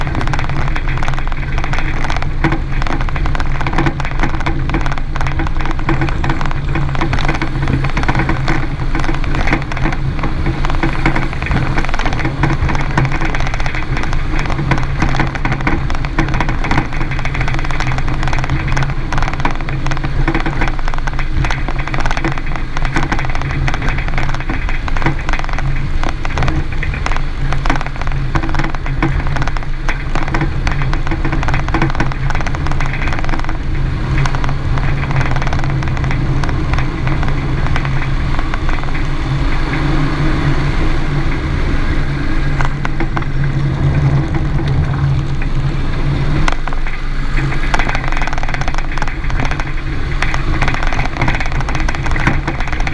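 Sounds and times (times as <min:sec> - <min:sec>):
car running hum: 0:00.0 - 0:52.9
suspension knocks and rattles: 0:00.0 - 0:52.9.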